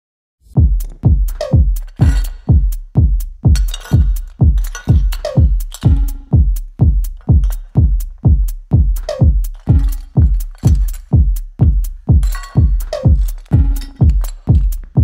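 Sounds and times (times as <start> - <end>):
deep kick drum: 0.5 - 15.0
electronic music: 0.5 - 15.0
high percussion ticks: 0.6 - 15.0.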